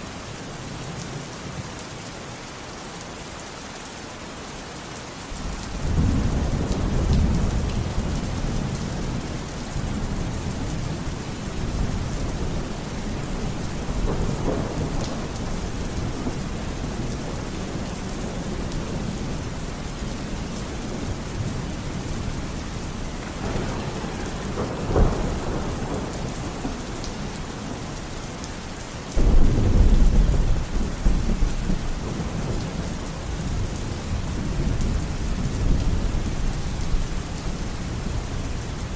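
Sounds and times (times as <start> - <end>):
heavy rain: 0.0 - 38.9
thunder rumbling: 5.4 - 38.9.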